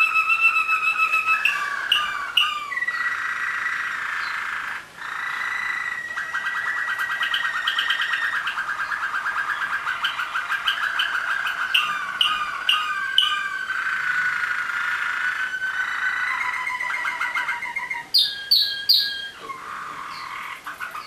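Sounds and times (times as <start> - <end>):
canaries singing trills: 0.0 - 21.0.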